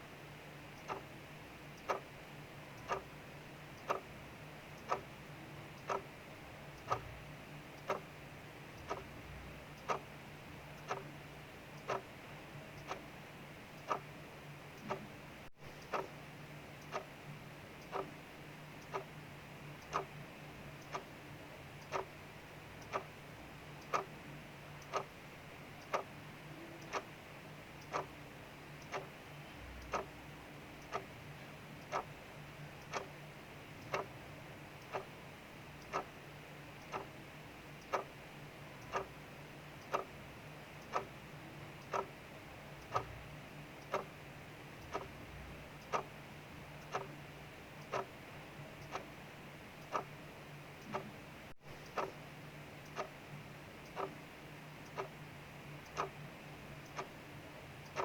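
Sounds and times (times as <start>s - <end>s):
clock ticking: 0.6s - 58.0s.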